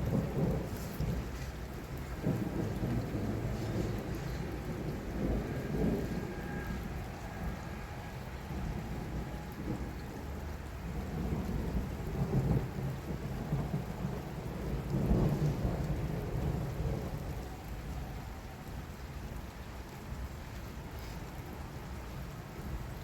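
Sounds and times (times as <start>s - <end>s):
thunder rumbling: 0.0s - 21.6s
heavy rain: 0.0s - 23.0s.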